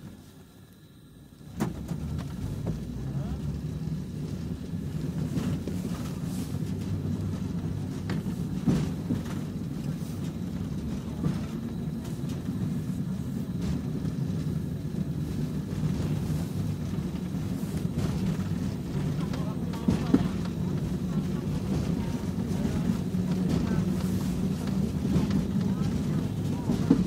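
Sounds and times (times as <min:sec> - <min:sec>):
tram running rumble: 0:00.0 - 0:27.0.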